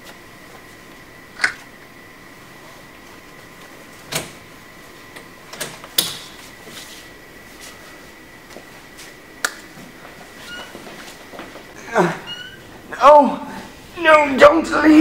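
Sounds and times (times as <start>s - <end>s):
faint high hum: 0.0s - 15.0s.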